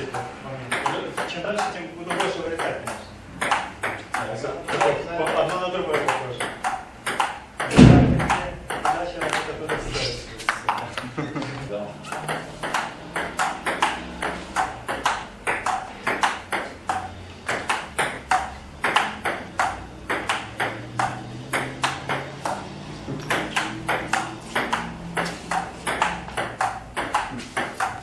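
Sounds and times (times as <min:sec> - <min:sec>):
ping-pong ball hitting paddles: 0:00.0 - 0:09.8, 0:10.4 - 0:28.0.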